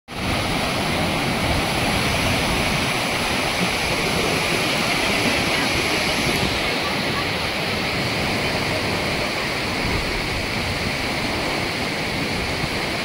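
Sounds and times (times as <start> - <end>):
floodwater rushing through gates: 0.1 - 13.0.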